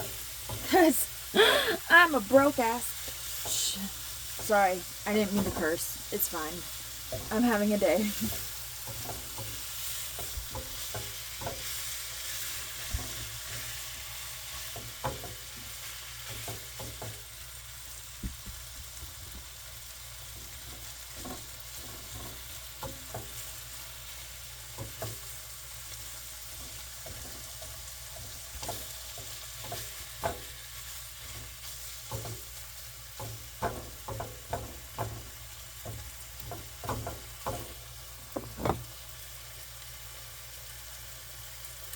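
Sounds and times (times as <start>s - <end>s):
meat sizzling in a pan: 0.0s - 41.9s
utensil clicking against pan: 2.5s - 17.5s, 19.3s - 38.9s.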